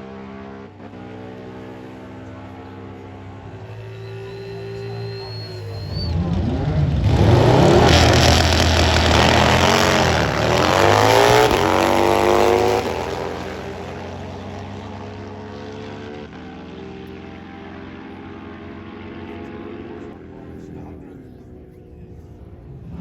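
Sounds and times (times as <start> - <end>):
drag bike engine accelerating: 0.0 - 23.0.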